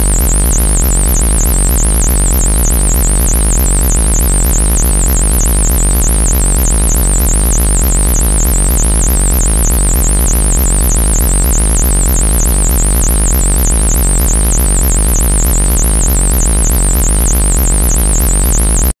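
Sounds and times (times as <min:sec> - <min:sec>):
deep bass: 0:00.0 - 0:18.9.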